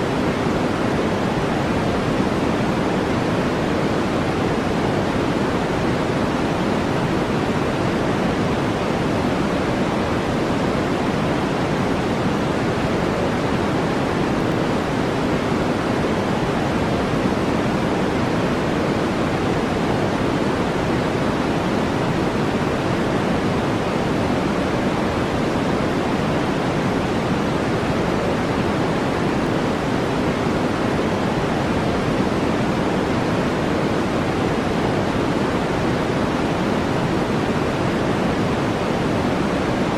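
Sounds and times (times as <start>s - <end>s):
deep steady brown noise: 0.0s - 39.9s.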